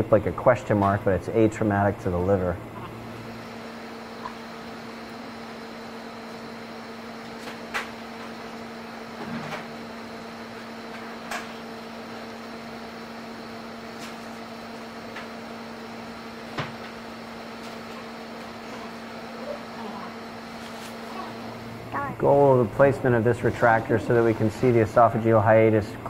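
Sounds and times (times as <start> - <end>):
electrical equipment hum: 0.0 - 26.0.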